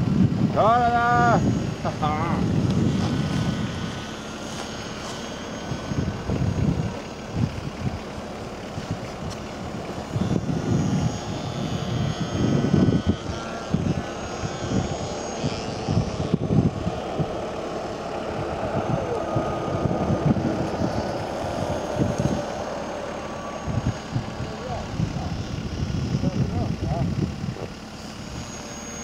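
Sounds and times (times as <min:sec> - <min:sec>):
model airplane motor whine: 0:00.0 - 0:29.0
wind rumbling on microphone: 0:00.0 - 0:29.0.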